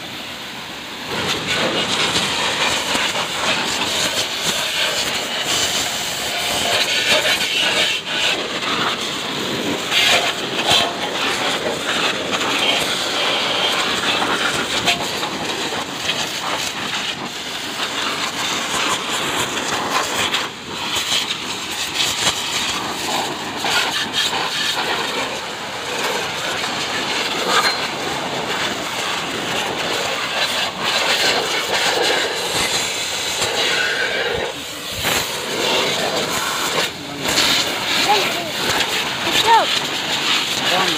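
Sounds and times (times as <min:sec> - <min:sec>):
pressure washer spraying water: 0:00.0 - 0:40.9.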